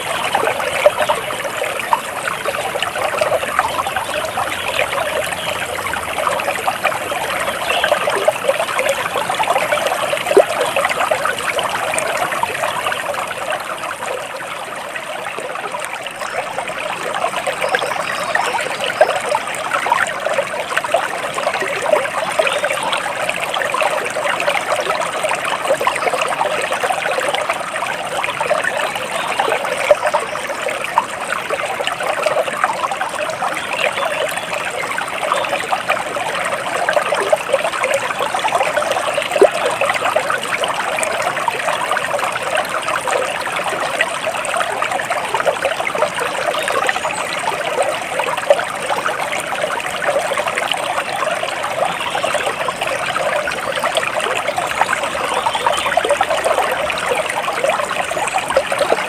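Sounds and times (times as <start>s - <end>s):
stream water babbling over rocks: 0.0s - 59.0s.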